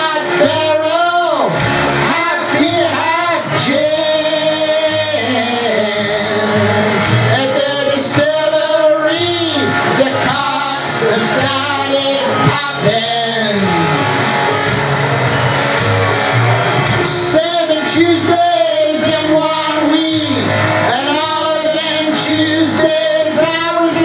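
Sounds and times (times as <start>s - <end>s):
man singing into microphone: 0.0s - 14.2s, 16.9s - 24.0s
backing music: 0.0s - 24.0s.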